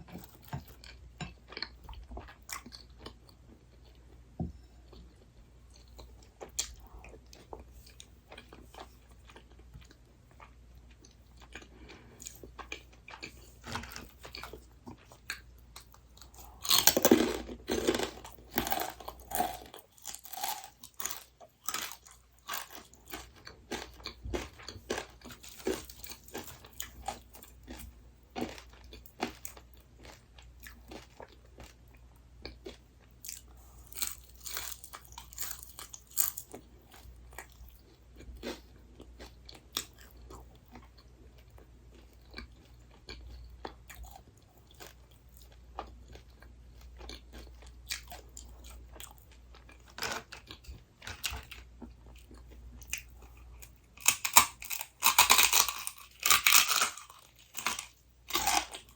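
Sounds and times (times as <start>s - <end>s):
person chewing crunchy food: 0.0s - 58.9s.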